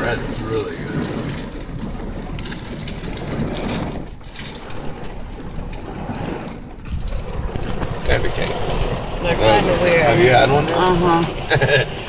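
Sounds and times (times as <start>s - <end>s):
heavy rain pelting car: 0.0s - 12.0s
wind gusts against car: 0.0s - 12.0s.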